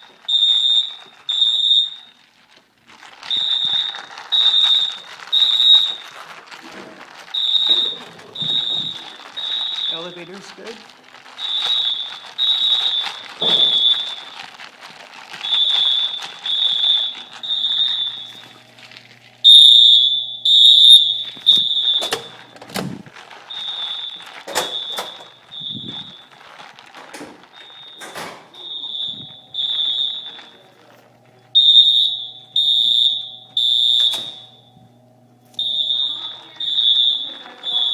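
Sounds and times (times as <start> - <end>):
fire alarm horns beeping: 0.0 - 2.4, 3.3 - 6.3, 7.2 - 14.7, 15.3 - 26.4, 27.2 - 37.9.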